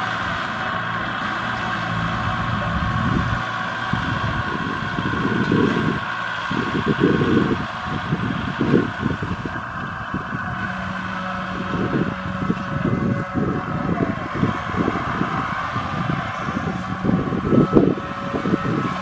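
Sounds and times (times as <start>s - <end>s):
tractor engine running: 0.0s - 19.0s
wind buffeting microphone: 0.0s - 19.0s.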